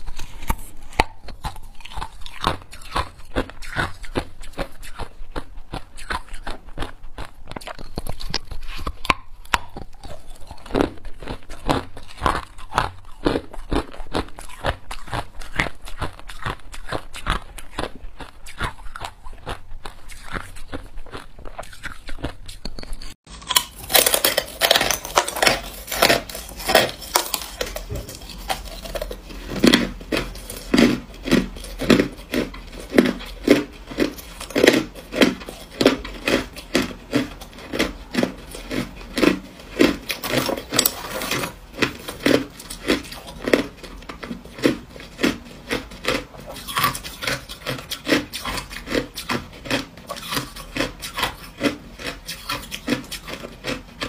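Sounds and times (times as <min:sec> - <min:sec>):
ice crunching in mouth: 0:00.0 - 0:54.0.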